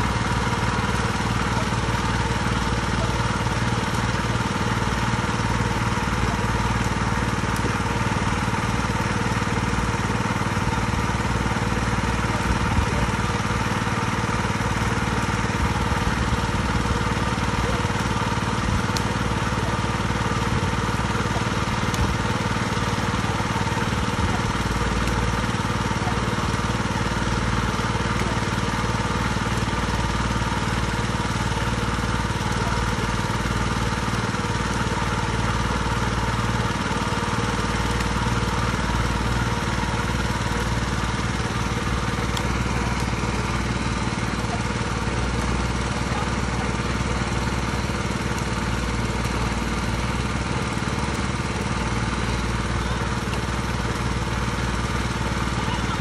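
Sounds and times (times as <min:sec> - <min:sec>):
engine-driven water pump running: 0:00.0 - 0:56.0.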